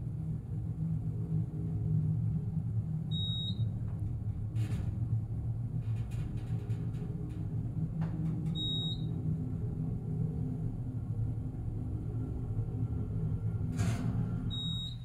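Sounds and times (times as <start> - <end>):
elevator humming: 0.0 - 15.0.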